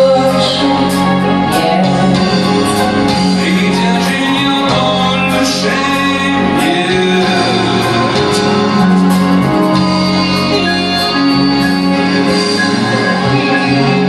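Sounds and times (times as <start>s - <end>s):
live band playing slow song: 0.0s - 14.0s
person singing: 0.0s - 14.0s.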